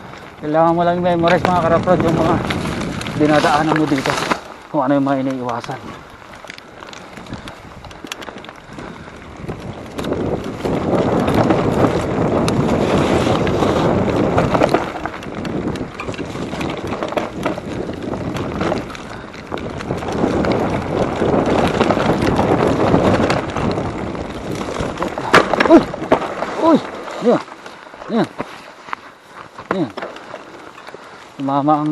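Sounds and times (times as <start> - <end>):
wind buffeting microphone: 0.0 - 28.5
bike rattles and knocks: 0.0 - 31.9
tyre rumble: 0.0 - 31.9.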